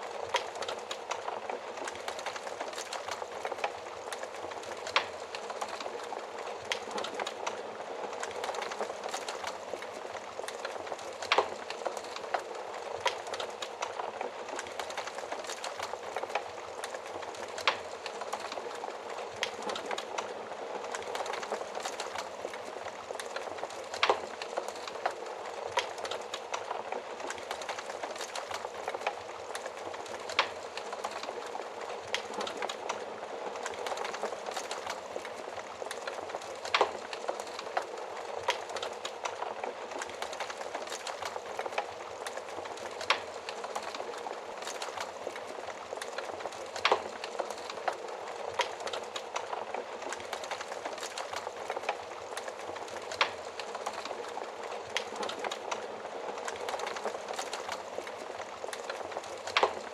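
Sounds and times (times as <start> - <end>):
wood fire rushing and crackling: 0.0 - 59.9.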